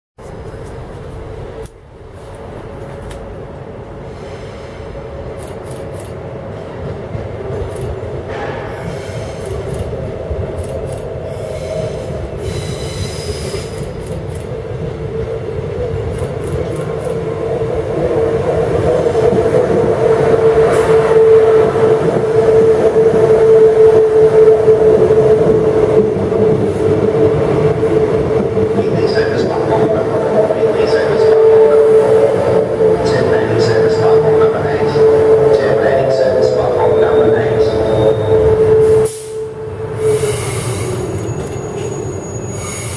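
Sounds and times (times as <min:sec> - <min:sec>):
train rumble: 0:00.2 - 0:42.9
electric train whine: 0:00.3 - 0:42.9.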